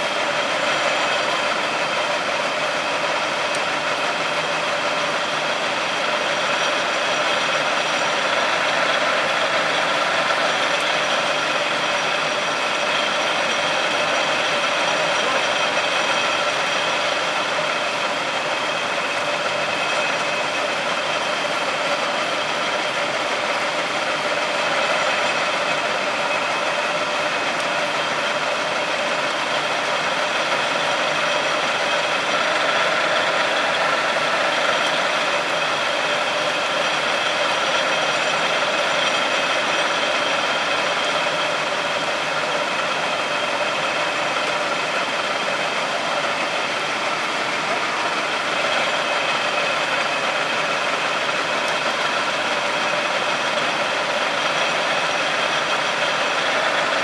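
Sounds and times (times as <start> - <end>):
high steady machine whine: 0.0 - 57.0
screw machine running: 0.0 - 57.0.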